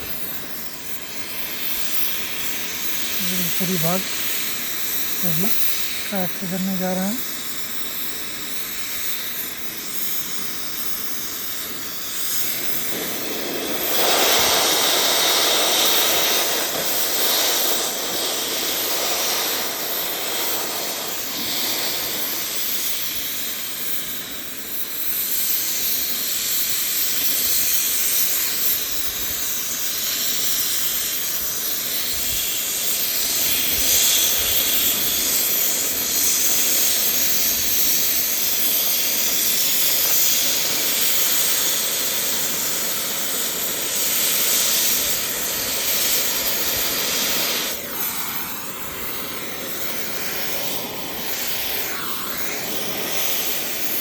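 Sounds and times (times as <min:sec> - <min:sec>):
cutting torch hissing: 0:00.0 - 0:54.0.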